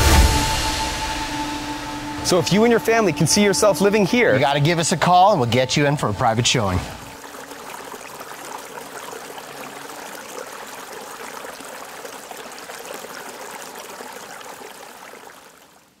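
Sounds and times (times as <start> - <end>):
stream running over stones: 2.3 - 16.0.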